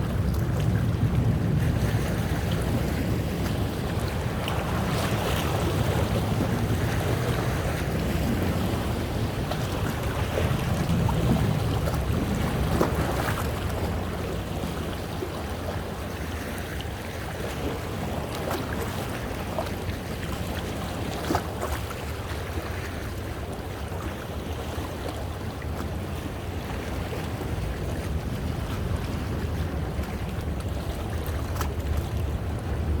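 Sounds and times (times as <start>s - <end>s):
sea waves washing over rocks: 0.0s - 33.0s.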